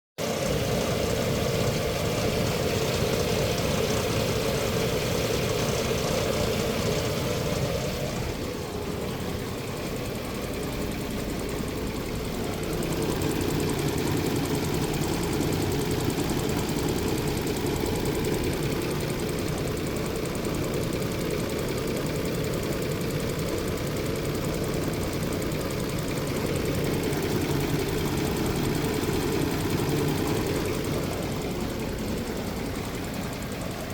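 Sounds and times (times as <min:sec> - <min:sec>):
car engine idling: 0:00.2 - 0:33.9
engine knocking: 0:00.2 - 0:33.9.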